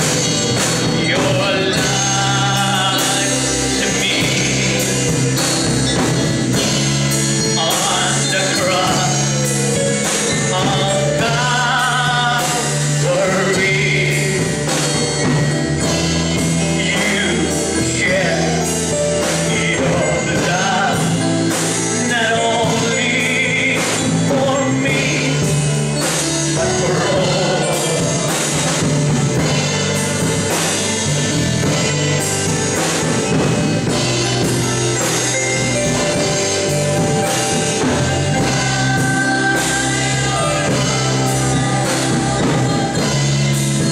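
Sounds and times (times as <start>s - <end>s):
amplified band with drum kit: 0.0s - 43.9s
person singing: 0.0s - 43.9s.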